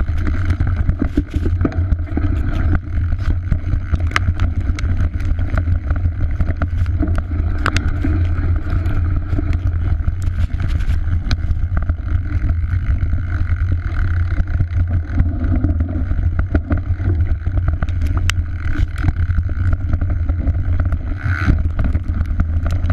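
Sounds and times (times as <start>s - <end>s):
bike rattling over rough ground: 0.0s - 22.9s
wind and tyres rumbling: 0.0s - 22.9s.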